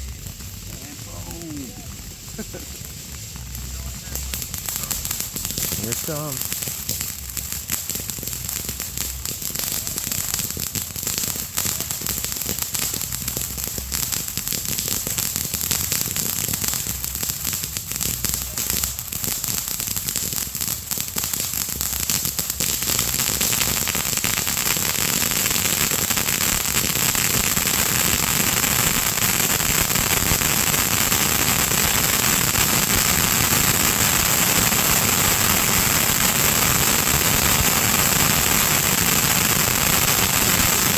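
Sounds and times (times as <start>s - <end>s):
fireworks crackling: 0.0s - 40.9s.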